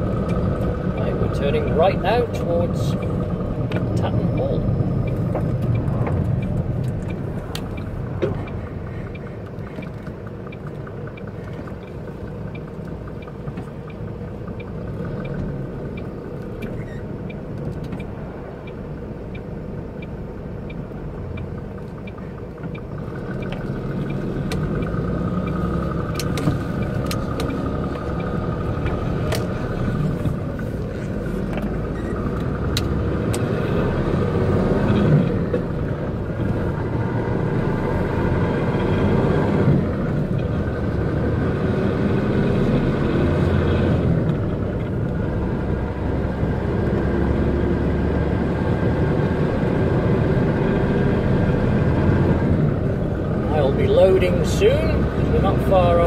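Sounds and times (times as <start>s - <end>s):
diesel engine and road rumble: 0.0s - 56.0s
turn signal ticking: 0.0s - 56.0s.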